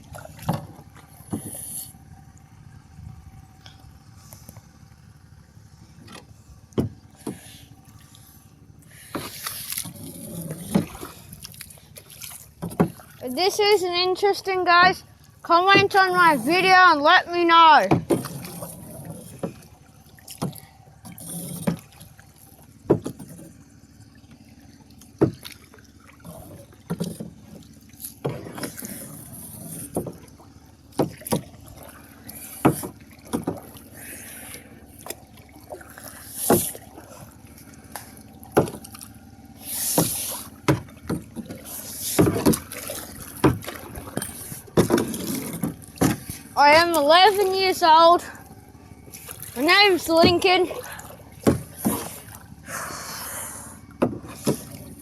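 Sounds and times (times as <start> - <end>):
paddle knocking against canoe hull: 0.0 - 1.7, 6.0 - 7.7, 9.0 - 13.2, 15.4 - 52.5, 53.9 - 55.0
water splashing off paddle: 0.0 - 2.4, 5.8 - 55.0.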